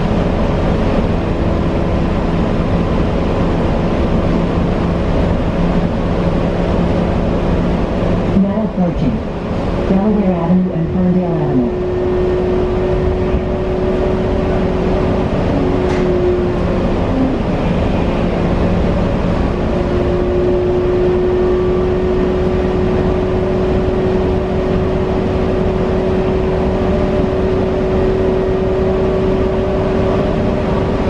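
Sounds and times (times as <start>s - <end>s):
road and tyre rumble: 0.0s - 31.0s.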